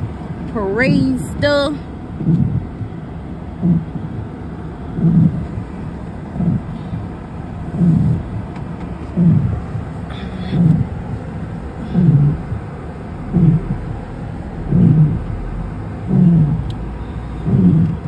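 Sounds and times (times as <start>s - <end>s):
cabin and road noise: 0.0s - 18.0s
windshield wipers thumping: 0.0s - 18.0s.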